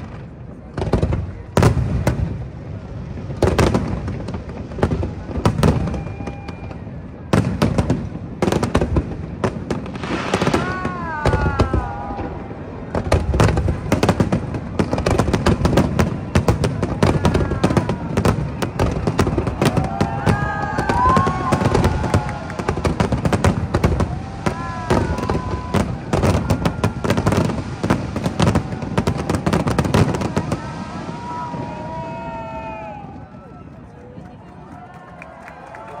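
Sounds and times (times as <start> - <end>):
fireworks bangs and crackling: 0.0 - 34.2.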